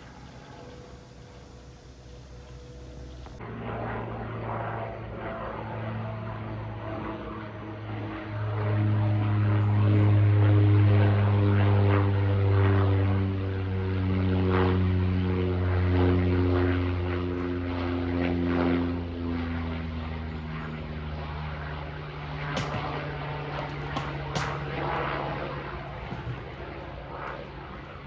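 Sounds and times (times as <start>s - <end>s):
propeller plane flying overhead: 0.0s - 28.0s.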